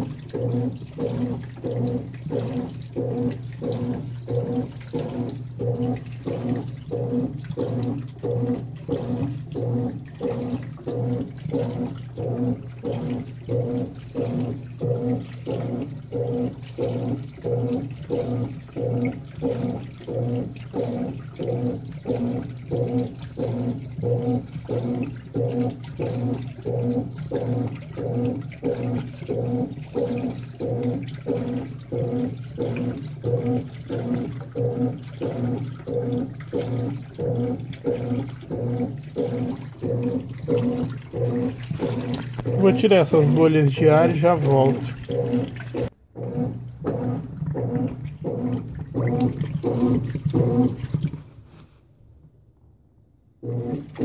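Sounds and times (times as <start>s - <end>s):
motor hum: 0.0s - 51.4s, 53.4s - 54.0s
washing machine water sloshing: 0.0s - 51.8s, 53.4s - 54.0s.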